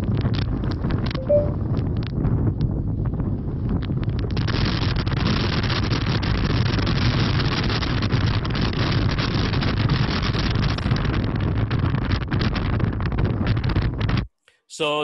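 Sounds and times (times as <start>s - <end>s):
strong wind buffeting microphone: 0.0s - 14.3s.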